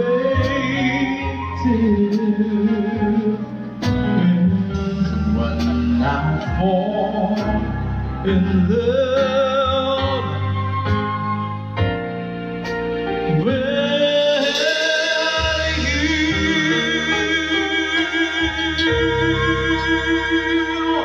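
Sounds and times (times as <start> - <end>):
man singing: 0.0 - 10.9, 13.2 - 21.0
live band playing: 0.0 - 21.0.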